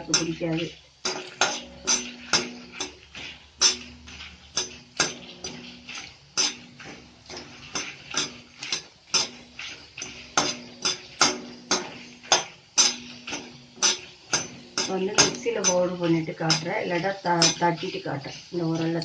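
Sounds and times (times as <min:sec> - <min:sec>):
utensil scraping metal pan: 0:00.0 - 0:19.0.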